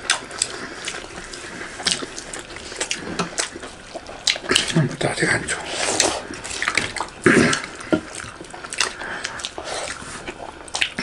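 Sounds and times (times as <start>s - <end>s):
chewing and mouth smacks: 0.0s - 4.9s, 5.9s - 11.0s.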